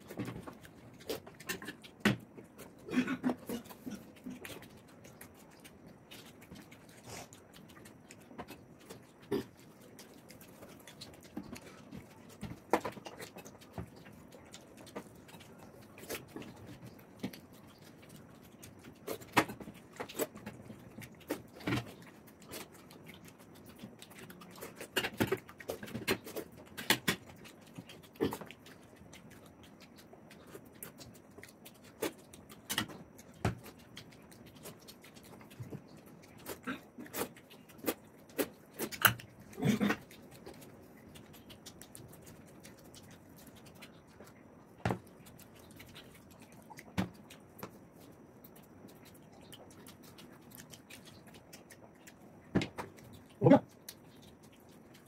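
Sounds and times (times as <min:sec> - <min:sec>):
chewing and lip-smacking: 0:00.0 - 0:55.0.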